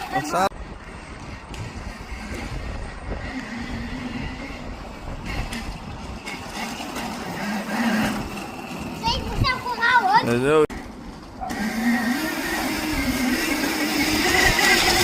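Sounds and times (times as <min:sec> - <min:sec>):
electric motor hum: 0:00.0 - 0:09.0, 0:10.7 - 0:15.0.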